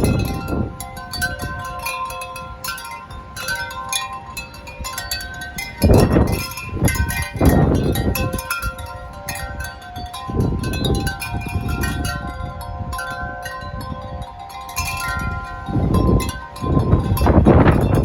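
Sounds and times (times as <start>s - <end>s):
wind chimes ringing: 0.0s - 18.0s
wind gusts buffeting microphone: 0.0s - 18.0s.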